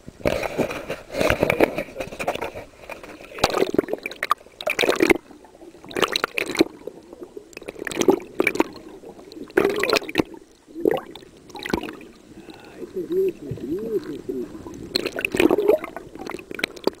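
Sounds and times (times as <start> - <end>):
water sloshing and splashing: 0.2 - 17.0.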